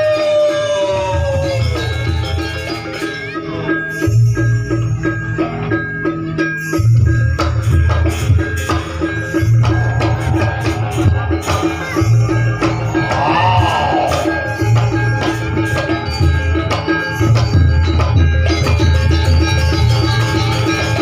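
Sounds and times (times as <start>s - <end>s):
struck percussion beat: 3.9s - 21.0s.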